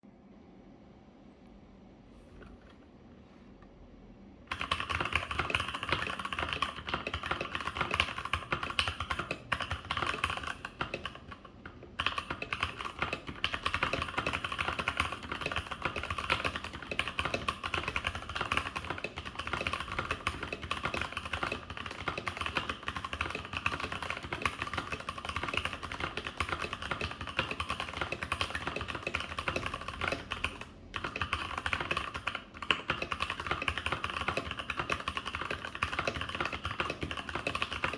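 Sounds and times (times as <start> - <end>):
mechanical keyboard typing: 4.5 - 37.9.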